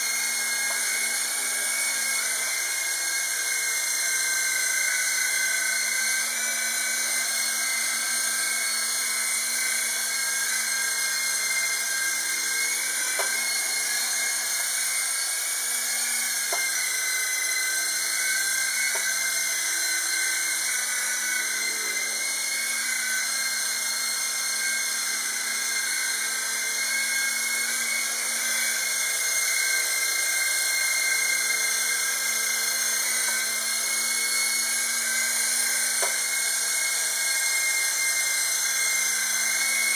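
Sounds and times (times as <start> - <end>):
toy helicopter motor whine: 0.0 - 39.9.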